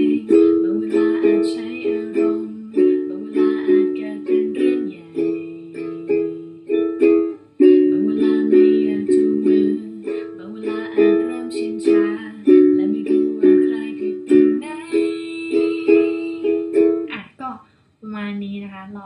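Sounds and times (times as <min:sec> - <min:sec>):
ukulele strumming chords: 0:00.0 - 0:17.2.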